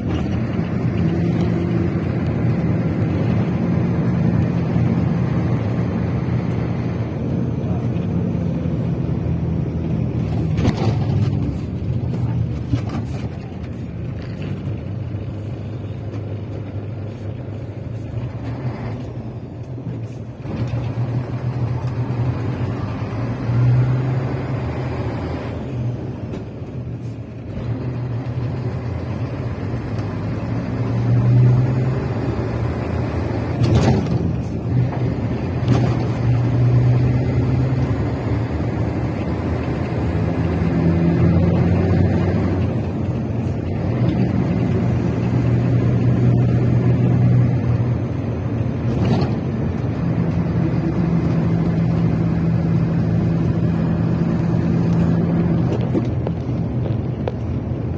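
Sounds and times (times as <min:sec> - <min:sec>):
motor vehicle rumble: 0:00.0 - 0:57.9.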